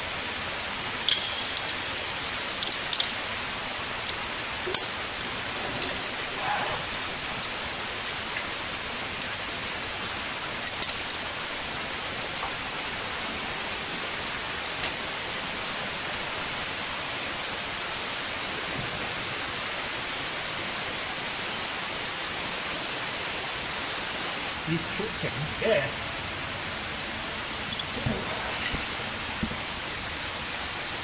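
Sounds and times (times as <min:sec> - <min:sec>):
steady hiss of falling water: 0:00.0 - 0:31.0.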